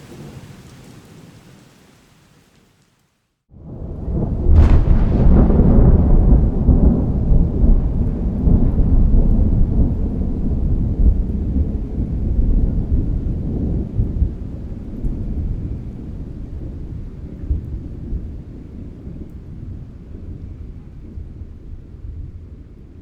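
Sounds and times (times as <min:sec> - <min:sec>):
thunder rumbling: 0:03.5 - 0:23.0.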